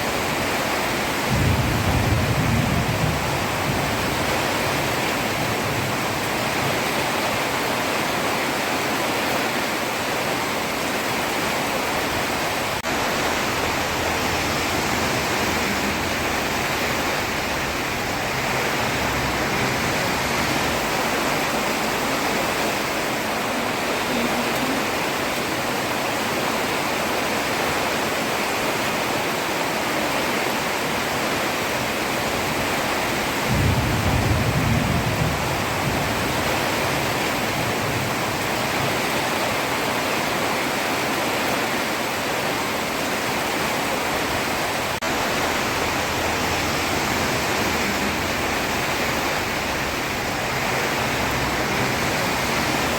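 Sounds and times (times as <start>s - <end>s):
heavy rain on a road: 0.0s - 52.9s.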